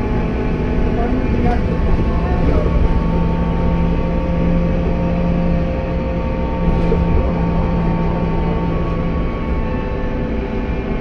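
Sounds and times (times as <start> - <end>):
bus engine drone: 0.0 - 11.0
road rumble: 0.0 - 11.0
steady whir: 0.0 - 11.0.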